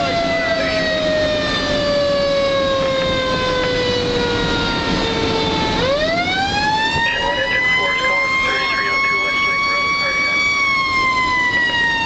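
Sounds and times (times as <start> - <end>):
fire engine siren wailing: 0.0 - 12.0
road noise: 0.0 - 12.0
truck engine rumble: 0.0 - 12.0.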